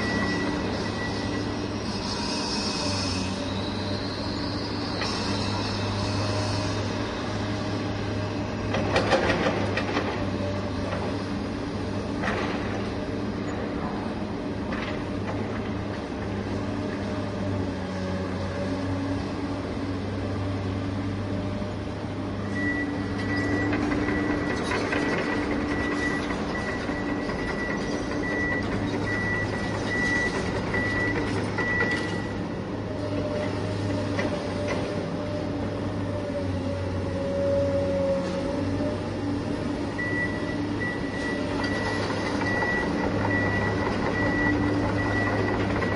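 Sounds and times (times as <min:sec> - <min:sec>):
electric motors and hydraulics humming: 0:00.0 - 0:45.9.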